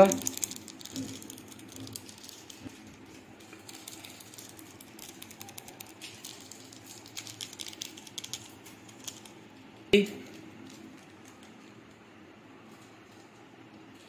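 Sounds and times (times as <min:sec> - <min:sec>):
chili flakes pattering: 0:00.0 - 0:14.0
plastic sachet crinkling: 0:00.0 - 0:14.0.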